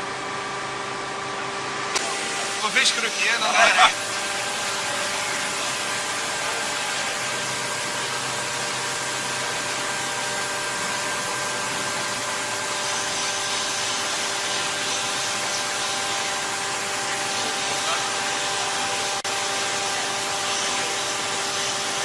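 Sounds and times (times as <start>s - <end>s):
machine hiss with whining tones: 2.1s - 22.0s.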